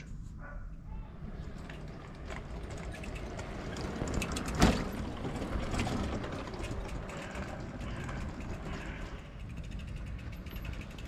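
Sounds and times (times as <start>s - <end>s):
metal parts clicking and rattling: 1.4s - 11.0s.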